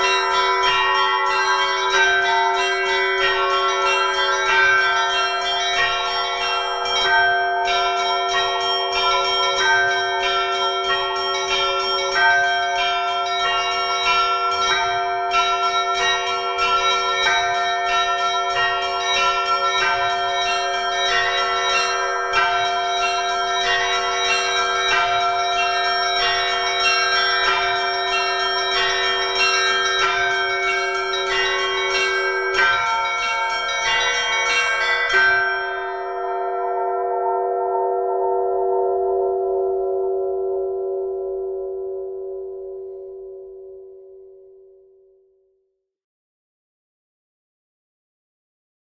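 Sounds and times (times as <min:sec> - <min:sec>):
small bells ringing patterns: 0:00.0 - 0:42.8
large bell ringing: 0:00.0 - 0:44.7.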